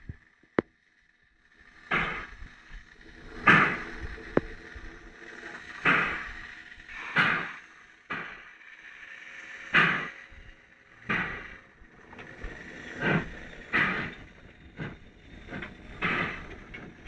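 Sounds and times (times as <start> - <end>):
steam locomotive chuffing: 1.5 - 17.0.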